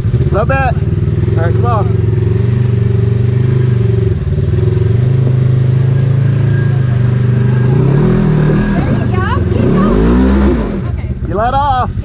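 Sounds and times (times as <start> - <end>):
engine running under throttle: 0.0 - 12.0.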